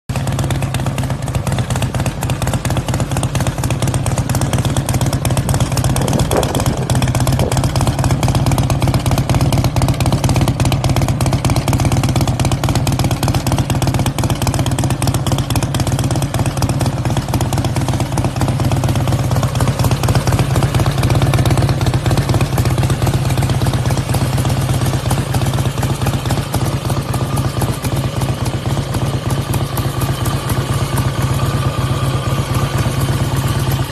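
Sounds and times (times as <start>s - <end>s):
motorcycle engine through loud exhaust: 0.1s - 33.9s.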